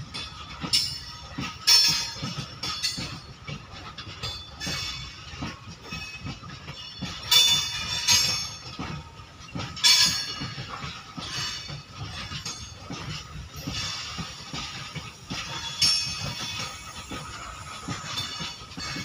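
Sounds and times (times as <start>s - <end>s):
wheels clattering on rails: 0.0s - 19.0s.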